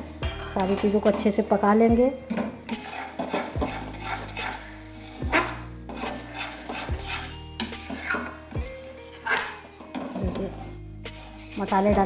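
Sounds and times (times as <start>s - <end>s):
spoon scraping metal pan: 0.0s - 1.7s, 2.3s - 11.8s
background music with bass: 0.0s - 12.0s.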